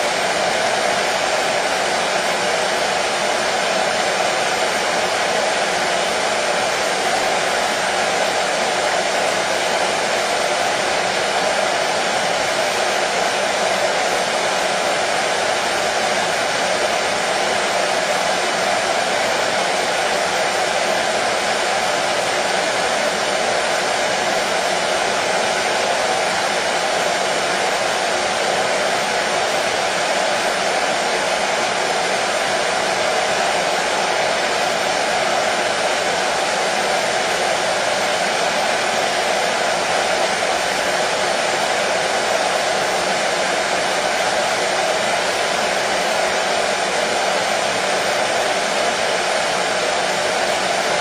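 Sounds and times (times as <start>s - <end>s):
hair dryer running: 0.0s - 51.0s.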